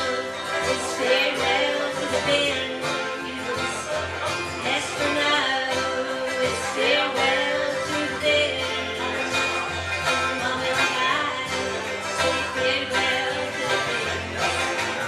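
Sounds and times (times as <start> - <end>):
banjo picking: 0.0 - 15.0
person singing: 0.0 - 15.0.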